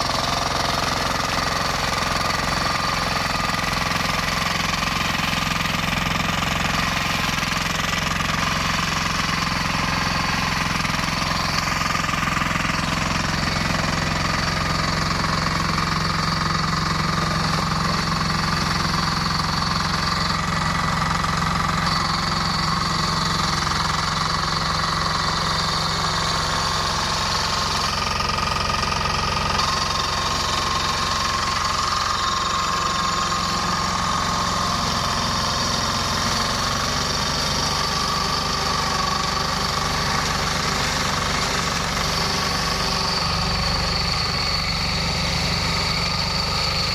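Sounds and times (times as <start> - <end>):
diesel engine running steadily: 0.0 - 46.9.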